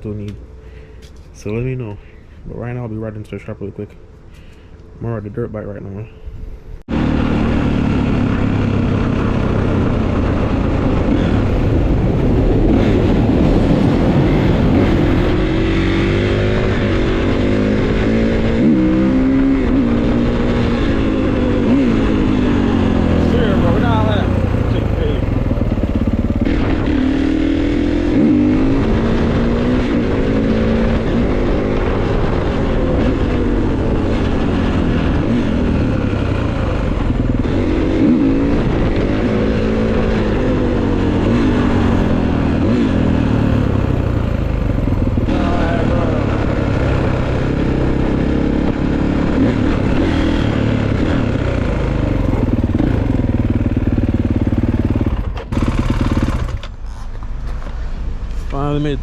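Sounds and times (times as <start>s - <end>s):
wind noise: 6.2s - 55.4s
dirt bike engine revving: 6.9s - 56.7s.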